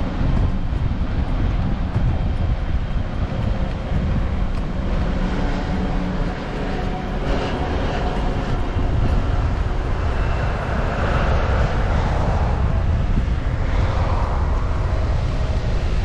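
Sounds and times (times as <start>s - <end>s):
bicycle ride noise: 0.0s - 16.0s
wind rushing over microphone: 0.0s - 16.0s.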